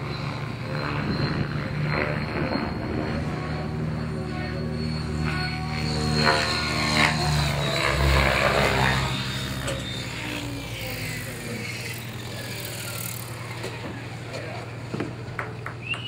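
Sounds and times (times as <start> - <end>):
model helicopter engine whine: 0.0 - 16.0.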